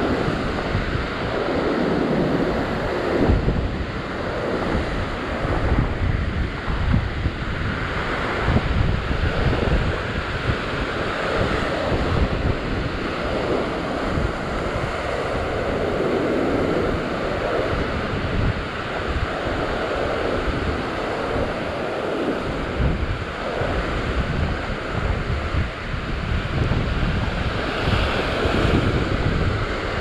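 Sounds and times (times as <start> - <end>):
surf washing over rocks: 0.0 - 30.0
wind buffeting microphone: 0.0 - 30.0.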